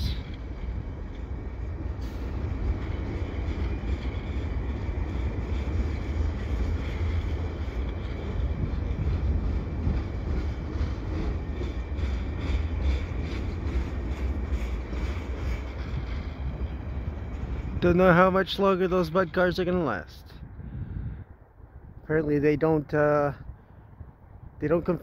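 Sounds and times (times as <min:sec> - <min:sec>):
train wheels on rail: 0:00.0 - 0:20.0.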